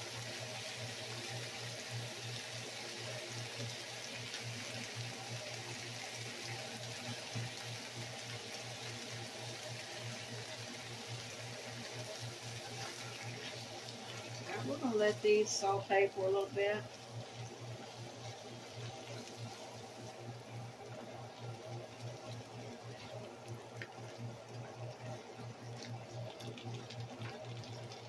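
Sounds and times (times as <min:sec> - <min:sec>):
onions sizzling in a frying pan: 0:00.0 - 0:28.0.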